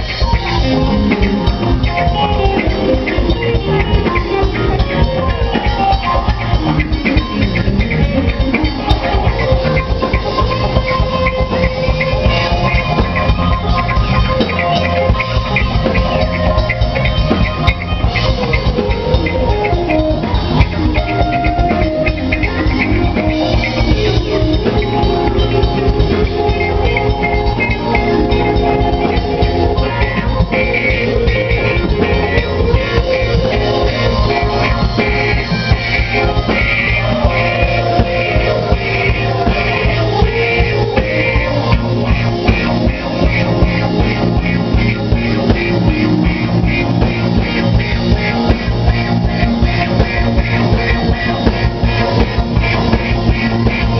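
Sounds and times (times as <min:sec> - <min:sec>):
bass guitar: 0:00.0 - 0:53.9
drum kit steady beat: 0:00.0 - 0:53.9
electric guitar: 0:00.0 - 0:53.9.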